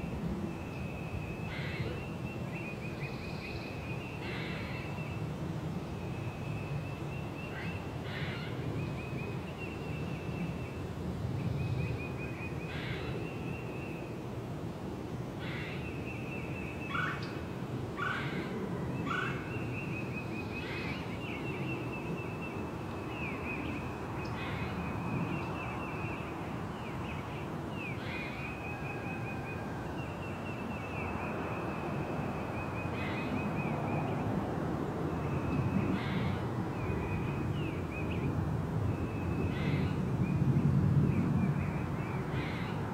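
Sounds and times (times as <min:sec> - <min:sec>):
low outdoor air hum: 0:00.0 - 0:42.9.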